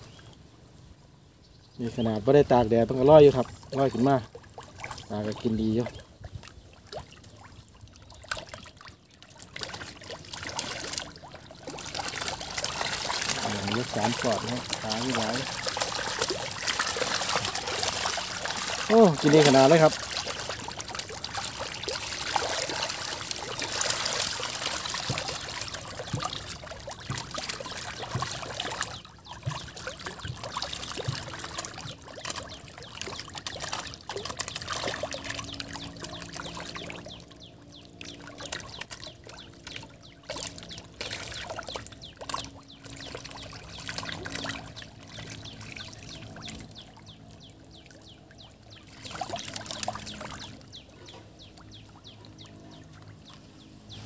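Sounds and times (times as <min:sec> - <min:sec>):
fish splashing and thrashing: 0:03.4 - 0:54.0.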